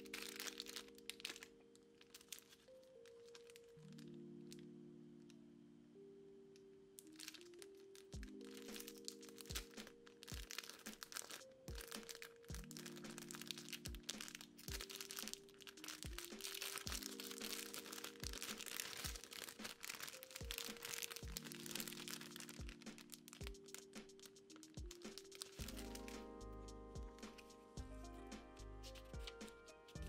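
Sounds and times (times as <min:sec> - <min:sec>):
plastic bag crinkling: 0:00.0 - 0:04.7, 0:07.0 - 0:26.3
lo-fi background music: 0:00.0 - 0:30.0.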